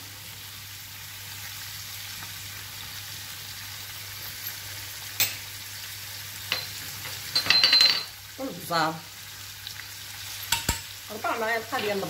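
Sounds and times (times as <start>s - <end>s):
squid sizzling in a frying pan: 0.0s - 12.0s.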